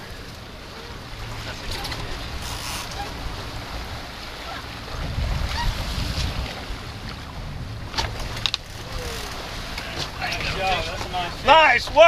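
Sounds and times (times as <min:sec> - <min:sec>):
boat engine running: 0:00.0 - 0:12.0
water rushing: 0:00.0 - 0:12.0
wind: 0:00.0 - 0:12.0.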